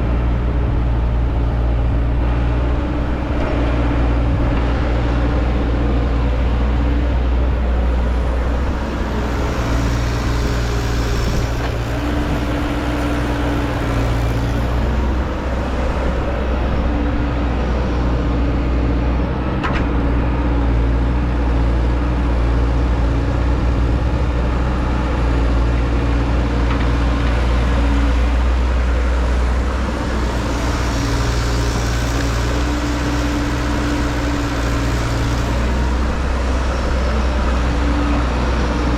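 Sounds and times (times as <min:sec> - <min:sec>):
heavy machinery engine running: 0:00.0 - 0:38.9.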